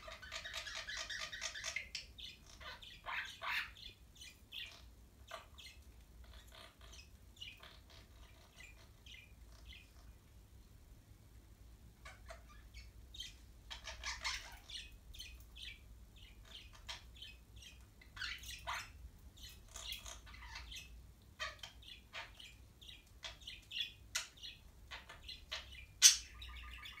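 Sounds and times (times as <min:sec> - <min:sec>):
parrots chirping and squawking: 0:00.0 - 0:10.2, 0:12.0 - 0:27.0.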